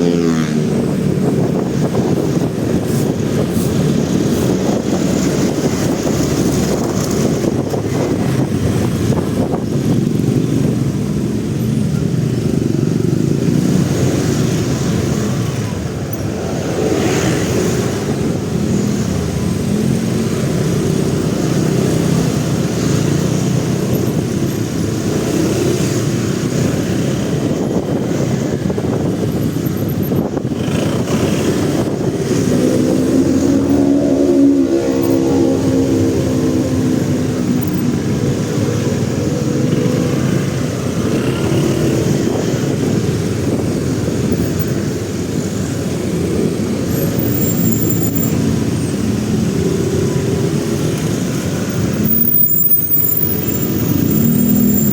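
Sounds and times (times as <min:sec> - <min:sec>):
motorcycle engine: 0:00.0 - 0:54.9
traffic noise: 0:00.0 - 0:54.9.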